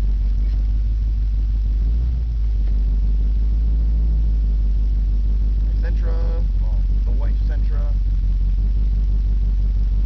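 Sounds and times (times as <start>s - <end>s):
car exhaust rumble: 0.0s - 10.0s.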